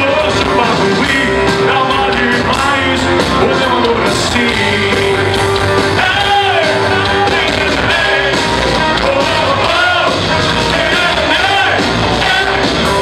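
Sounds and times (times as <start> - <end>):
man singing into a microphone: 0.0 - 8.4, 9.0 - 12.8
pop-rock band playing: 0.0 - 13.0.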